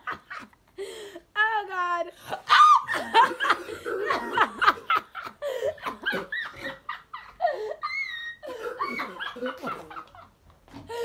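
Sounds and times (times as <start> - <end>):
young women laughing: 0.0 - 0.6, 2.3 - 11.0.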